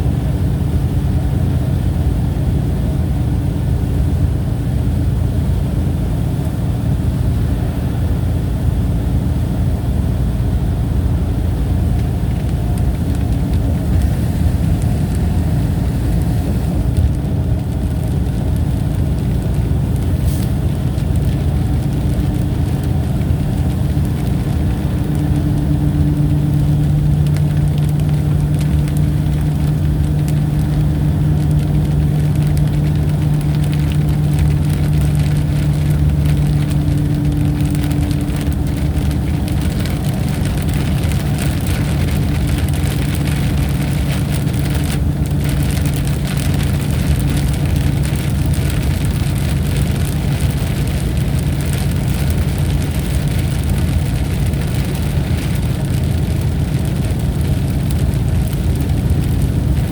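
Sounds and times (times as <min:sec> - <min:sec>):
heavy rain: 0:09.8 - 0:59.9.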